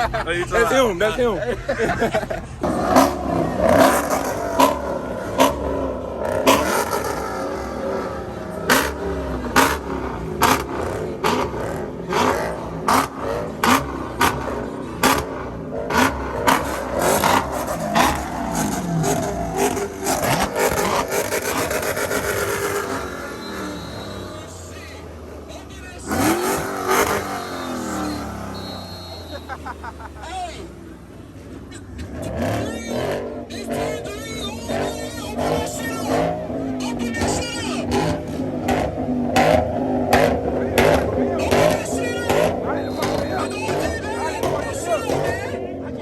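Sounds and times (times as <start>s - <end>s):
car engine revving hard: 0.0s - 46.0s
sharp exhaust cracks: 2.6s - 45.6s.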